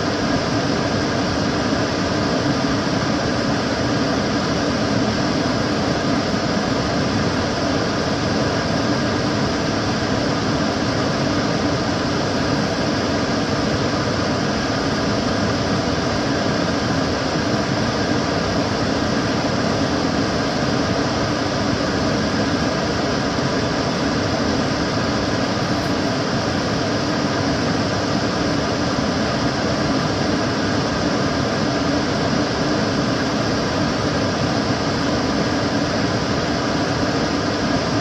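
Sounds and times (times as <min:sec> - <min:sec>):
extractor fan running: 0:00.0 - 0:38.0.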